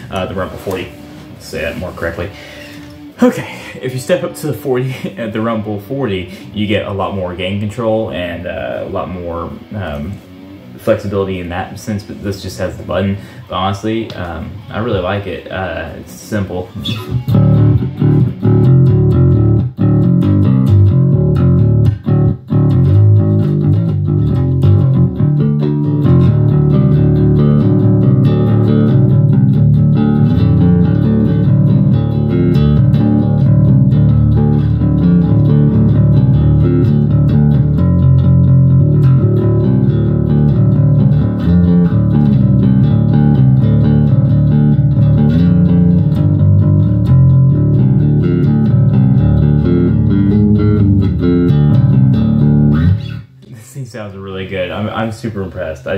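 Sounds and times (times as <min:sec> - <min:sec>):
overdriven electric bass line: 0:00.0 - 0:15.9, 0:16.7 - 0:53.3.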